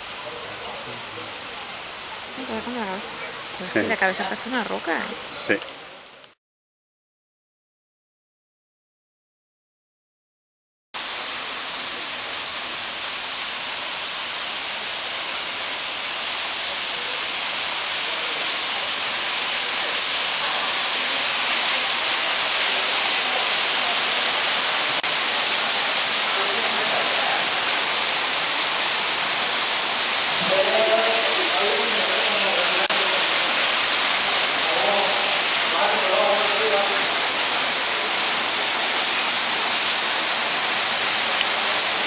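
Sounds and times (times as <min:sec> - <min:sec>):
water rushing: 0:00.0 - 0:06.3, 0:11.0 - 0:42.0.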